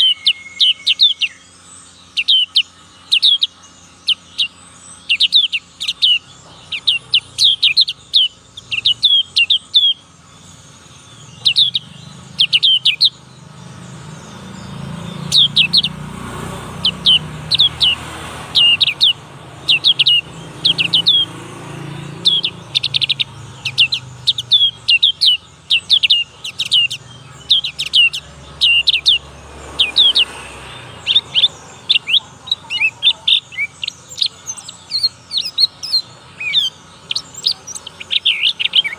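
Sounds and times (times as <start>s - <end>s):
bird singing high chirps: 0.0s - 38.9s.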